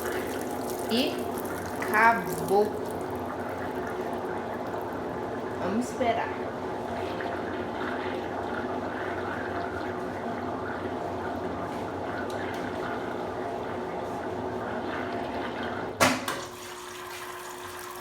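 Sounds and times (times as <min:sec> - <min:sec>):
water rushing in washing machine: 0:00.0 - 0:18.0.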